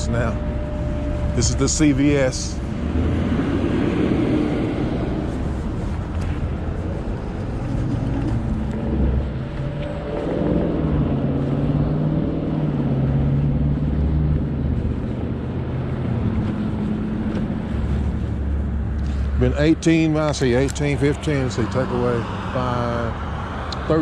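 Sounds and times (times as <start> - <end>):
wind noise: 0.0 - 19.5
road noise: 0.0 - 24.0.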